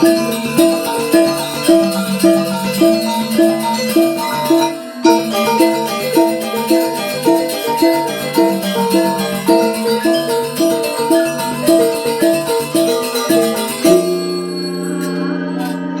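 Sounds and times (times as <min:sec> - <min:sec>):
angklung ensemble playing: 0:00.0 - 0:15.8.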